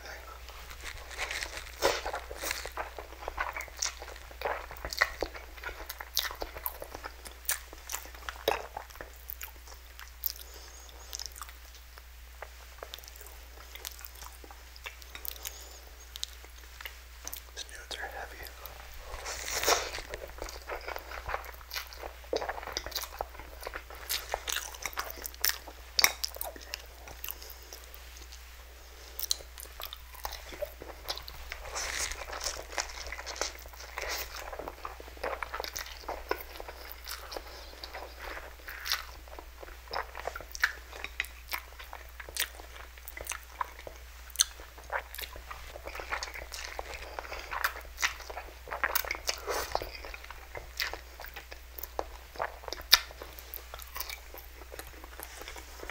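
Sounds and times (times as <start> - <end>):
chewing and biting: 0.4 - 28.4, 29.1 - 55.9.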